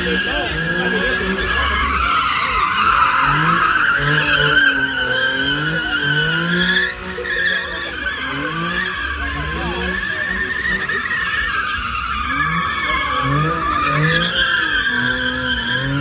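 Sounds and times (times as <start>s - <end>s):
car engine revving: 0.0s - 16.0s
tyre squealing: 0.0s - 16.0s.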